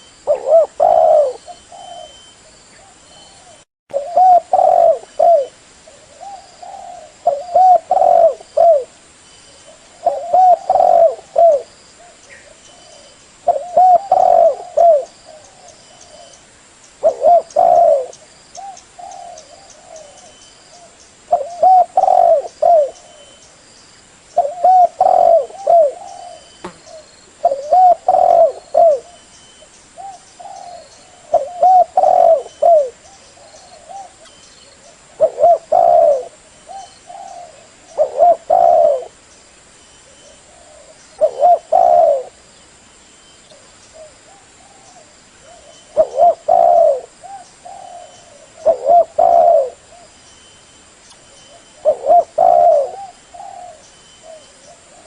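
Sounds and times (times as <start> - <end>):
dove cooing: 0.0 - 9.0, 9.7 - 16.4, 17.0 - 23.4, 24.4 - 29.3, 30.0 - 39.2, 40.1 - 42.4, 43.5 - 50.2, 51.5 - 55.0.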